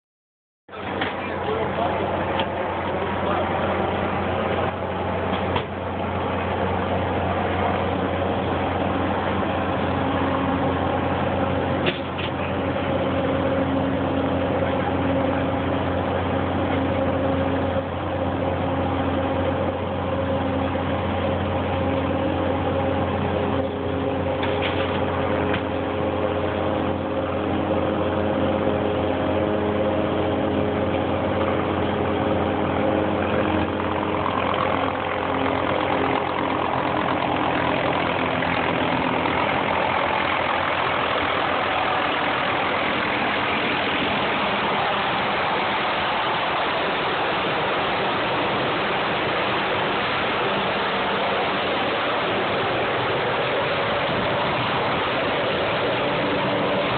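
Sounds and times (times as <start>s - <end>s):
engine droning: 0.7s - 56.9s.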